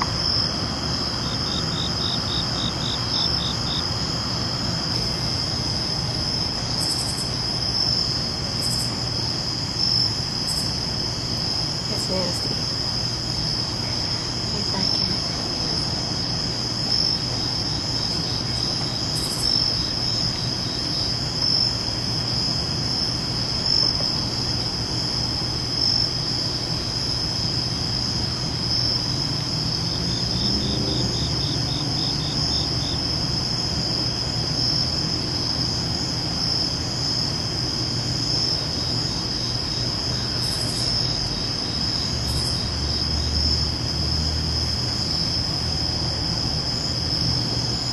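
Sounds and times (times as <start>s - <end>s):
crickets trilling: 0.0s - 47.9s
fast pulsing insect call: 0.0s - 47.9s
low steady hum: 0.0s - 47.9s.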